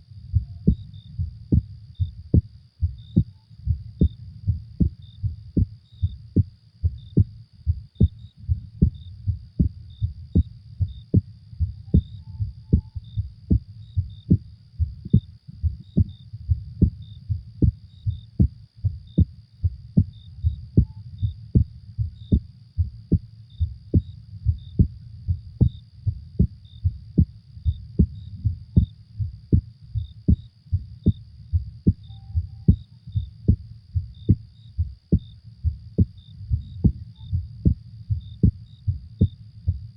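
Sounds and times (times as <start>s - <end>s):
small repeated chirps: 0.1s - 39.9s
heartbeat thumps: 0.2s - 39.9s.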